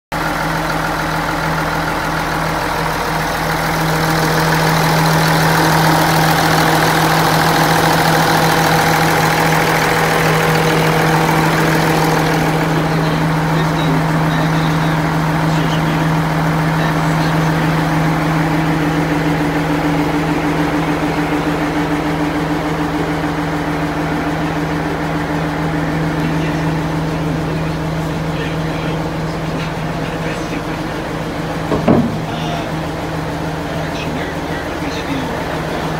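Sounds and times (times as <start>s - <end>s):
diesel truck engine idling: 0.1s - 35.9s
higher hum: 1.4s - 35.9s.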